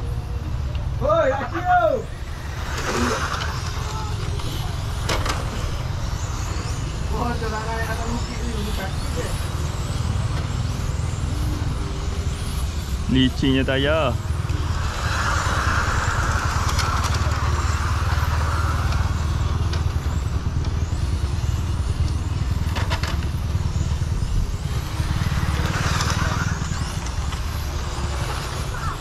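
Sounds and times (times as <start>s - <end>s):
rc car motors hissing: 0.0s - 29.0s.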